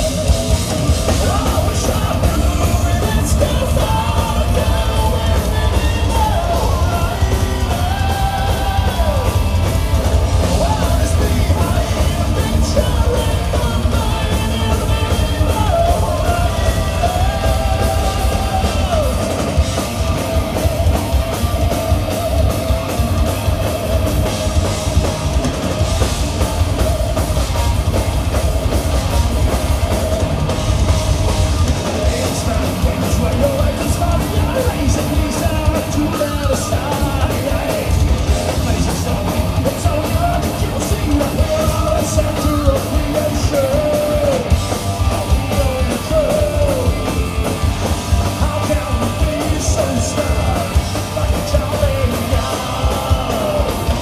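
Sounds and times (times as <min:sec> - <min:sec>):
heavy metal band playing live: 0:00.0 - 0:54.0.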